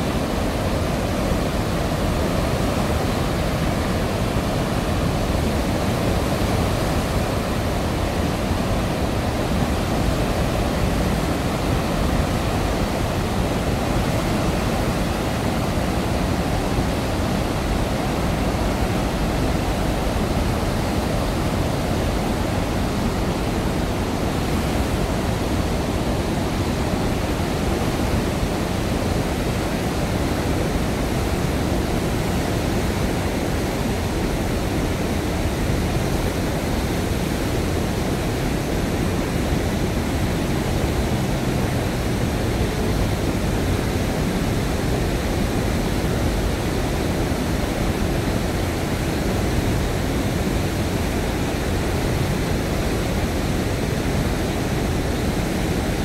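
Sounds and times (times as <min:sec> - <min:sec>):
roar of turbulent water: 0:00.0 - 0:56.0.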